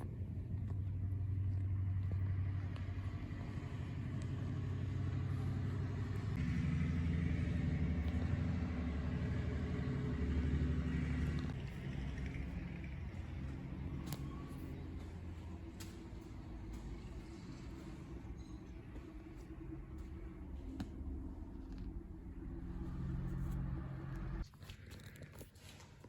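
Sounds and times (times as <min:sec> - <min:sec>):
diesel locomotive engine droning: 0:00.0 - 0:24.5.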